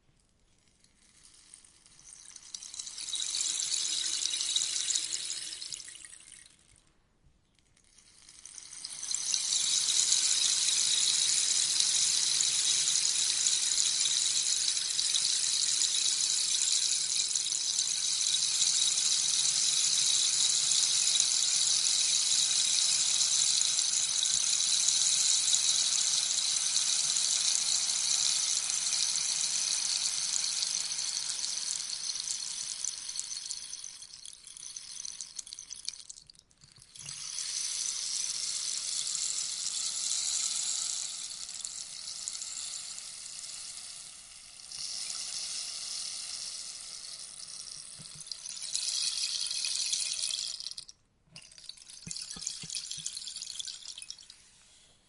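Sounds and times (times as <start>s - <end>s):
rainstick beads trickling: 0.5s - 6.8s, 7.7s - 54.9s.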